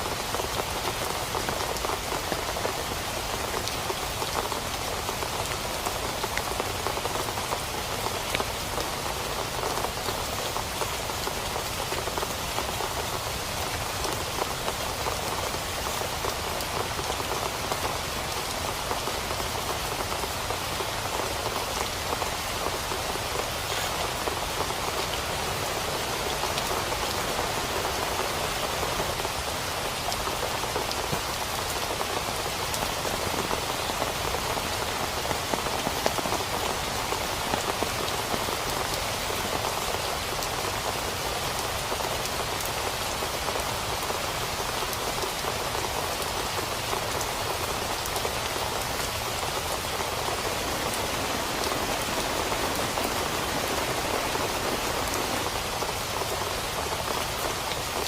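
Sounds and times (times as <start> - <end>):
heavy rain on a tent: 0.0 - 58.0.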